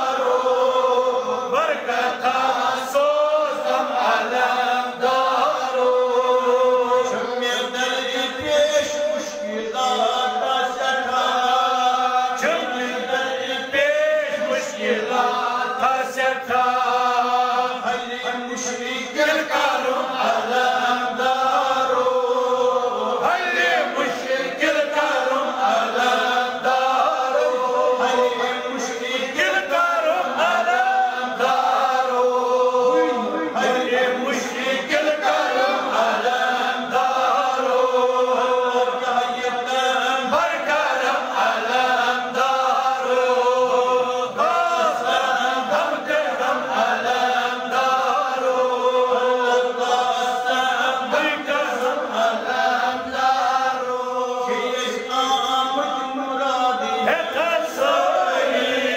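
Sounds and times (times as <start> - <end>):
voices chanting: 9.8 - 58.9.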